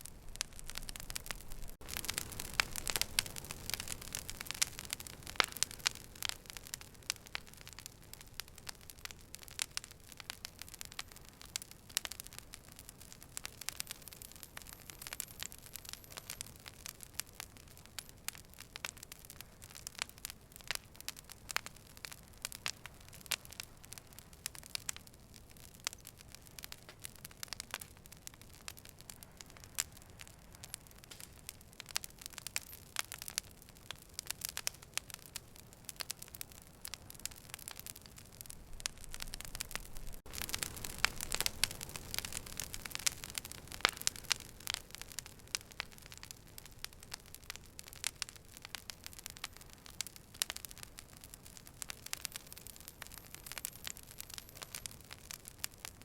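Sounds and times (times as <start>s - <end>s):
low steady fire hiss: 0.0s - 56.0s
wood fire crackling and popping: 0.0s - 56.0s.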